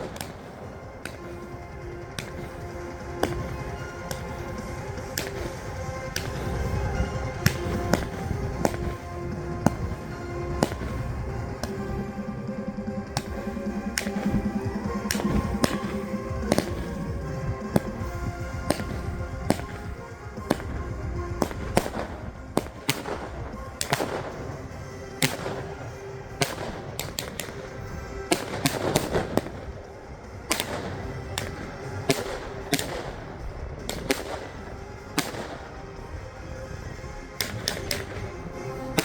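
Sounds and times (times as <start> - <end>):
background music: 0.0 - 39.0
fireworks banging: 0.0 - 39.0.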